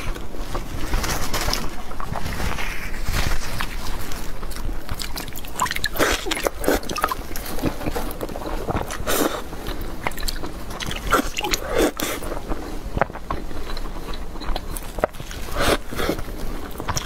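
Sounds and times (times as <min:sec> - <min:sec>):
wet chewing mouth sounds: 0:01.6 - 0:17.0.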